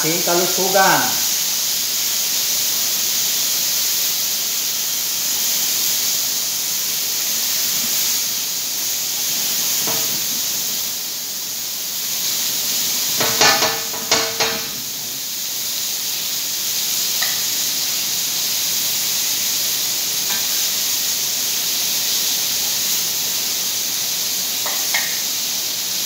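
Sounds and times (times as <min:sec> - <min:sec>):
chicken sizzling on steel plate: 0:00.0 - 0:26.0.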